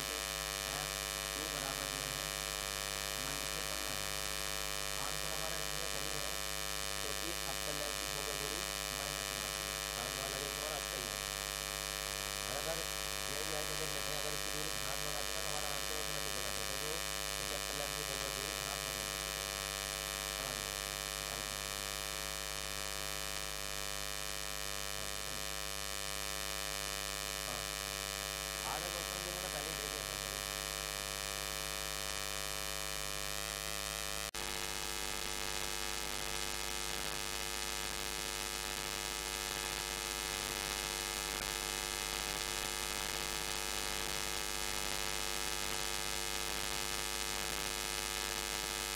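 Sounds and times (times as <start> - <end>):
electrical buzz: 0.0 - 48.9.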